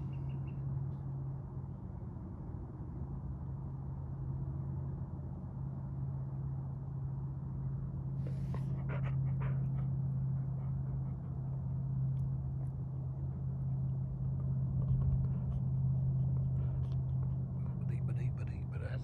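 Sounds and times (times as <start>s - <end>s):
vehicle hum with rumble: 0.0s - 19.0s.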